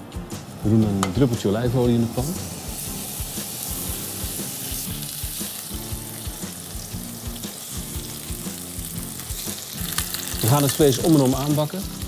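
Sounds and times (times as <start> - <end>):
background music with a beat: 0.0 - 12.0
meat sizzling in a frying pan: 0.0 - 12.0.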